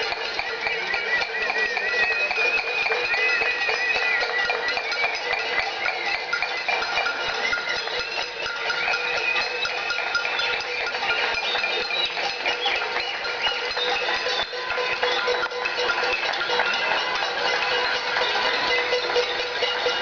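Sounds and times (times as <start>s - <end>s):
pots and pans banged with spoons: 0.0s - 20.0s.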